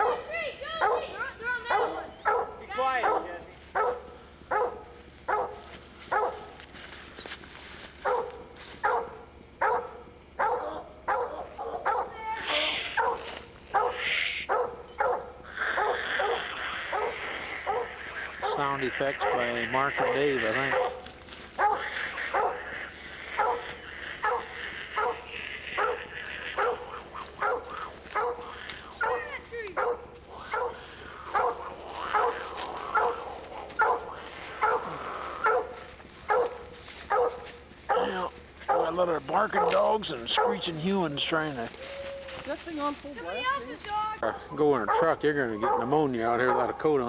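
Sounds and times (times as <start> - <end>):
dog barking: 0.0 - 6.6, 8.0 - 12.2, 13.0 - 21.0, 21.6 - 22.7, 23.3 - 33.2, 33.8 - 40.7, 44.3 - 47.0.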